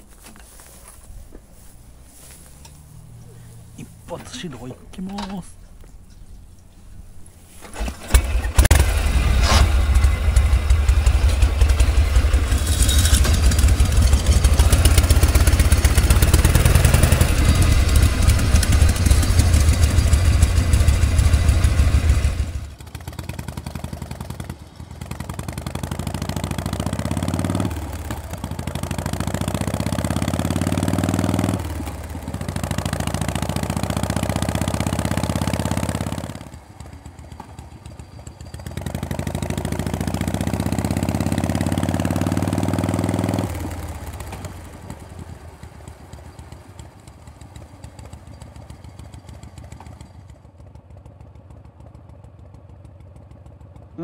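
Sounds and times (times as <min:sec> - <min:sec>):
motorcycle engine running lumpy: 0:00.0 - 0:54.0
motorcycle engine starting: 0:00.1 - 0:54.0
motorcycle accelerating: 0:00.5 - 0:54.0.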